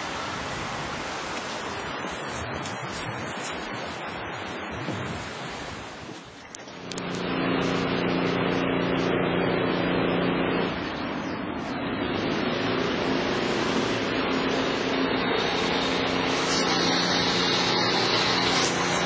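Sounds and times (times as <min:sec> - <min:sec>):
rain: 0:00.0 - 0:19.0
vehicle hum: 0:00.0 - 0:19.0
wind: 0:00.0 - 0:19.0.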